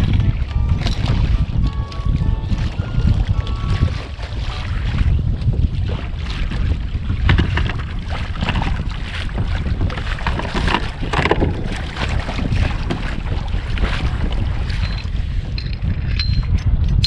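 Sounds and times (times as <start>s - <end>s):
waves slapping against kayak hull: 0.0s - 16.1s
wind buffeting microphone: 0.0s - 17.0s.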